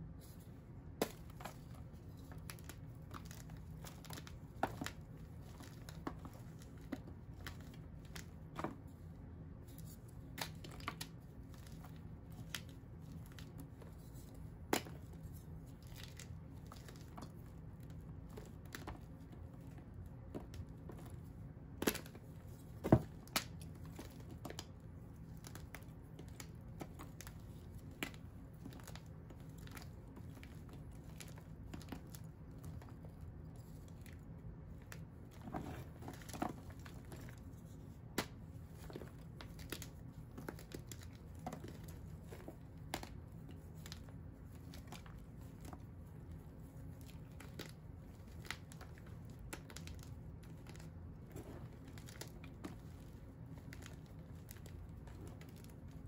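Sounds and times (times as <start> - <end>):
low steady hum: 0.0 - 56.0
chalk crumbling and snapping: 0.1 - 56.0.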